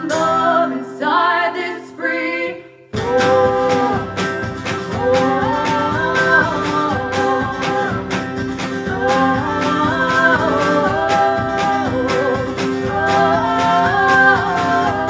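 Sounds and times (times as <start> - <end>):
strummed acoustic guitar: 0.0 - 1.7, 2.9 - 15.0
women singing: 0.0 - 15.0.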